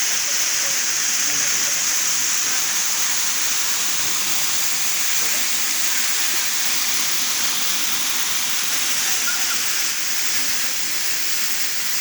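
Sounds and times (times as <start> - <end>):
water falling into pool: 0.0 - 12.0.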